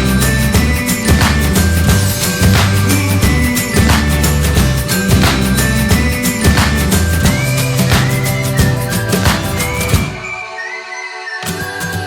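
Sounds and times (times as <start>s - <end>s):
music with steady drum beat: 0.0s - 10.2s.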